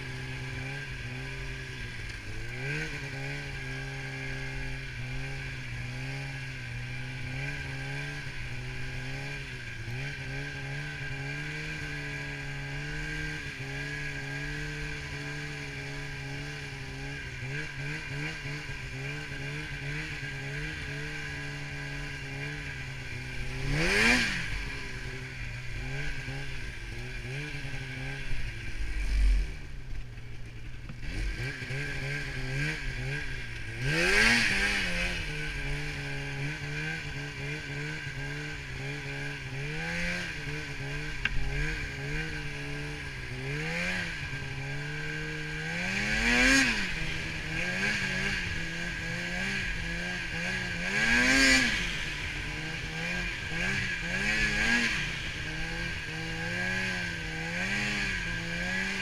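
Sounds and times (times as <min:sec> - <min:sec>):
snowmobile engine revving: 0:00.0 - 0:29.8, 0:30.4 - 0:59.0.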